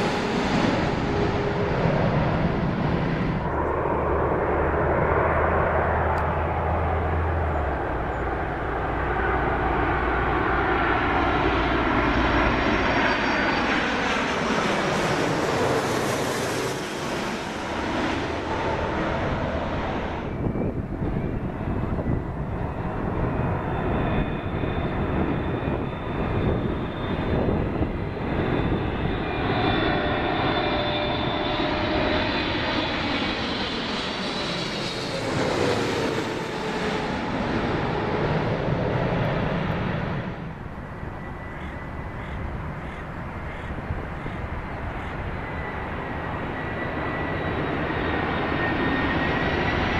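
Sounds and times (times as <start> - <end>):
jet airliner passing: 0.0 - 49.9.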